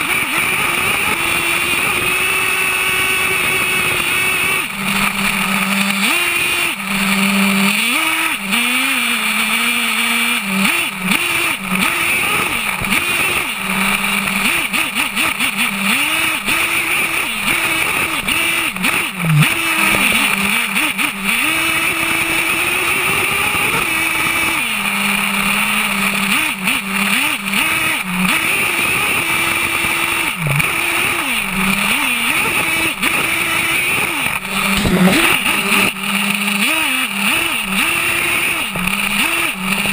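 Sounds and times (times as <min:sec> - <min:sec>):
model truck engine revving: 0:00.0 - 0:39.9.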